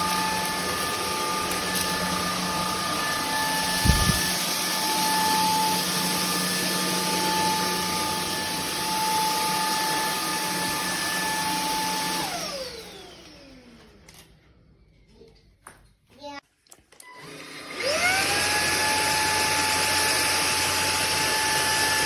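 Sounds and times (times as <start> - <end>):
vacuum motor winding down: 0.0 - 14.0, 17.2 - 22.0
stick vacuum motor whine: 0.0 - 14.2, 17.0 - 22.0.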